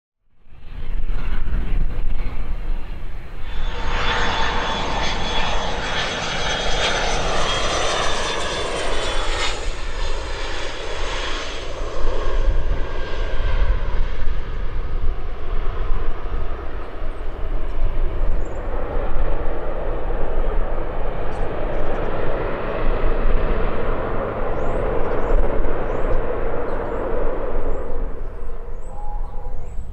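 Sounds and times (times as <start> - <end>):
jet engine whine: 0.4 - 29.9.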